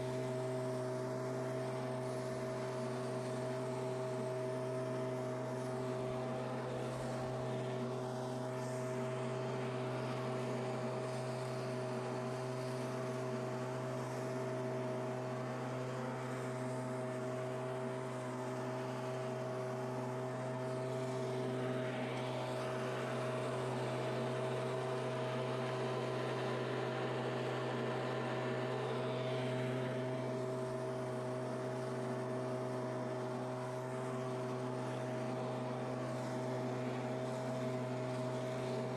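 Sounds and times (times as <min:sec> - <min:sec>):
leaf blower running: 0:00.0 - 0:38.9.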